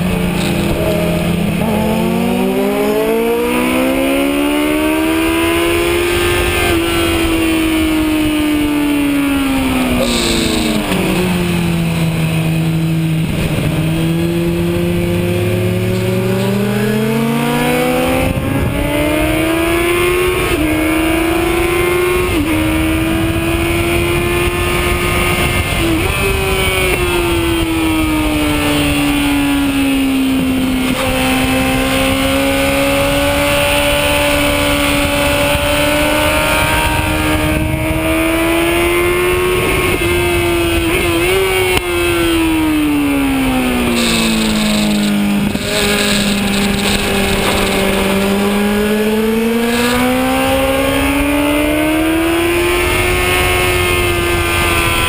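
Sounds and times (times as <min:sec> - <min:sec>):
heavy wind rush: 0:00.0 - 0:04.0, 0:04.6 - 0:31.7, 0:39.1 - 0:55.0
motorcycle engine accelerating: 0:00.0 - 0:55.0.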